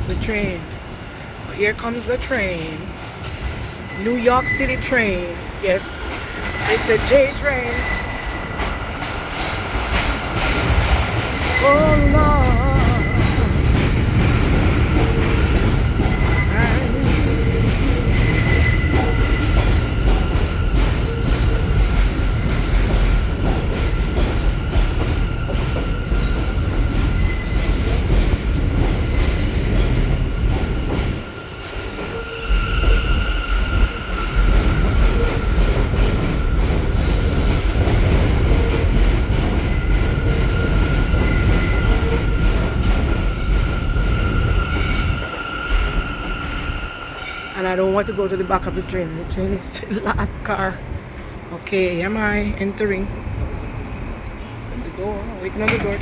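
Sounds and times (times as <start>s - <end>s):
train wheels rumbling over rails: 0.0s - 56.0s.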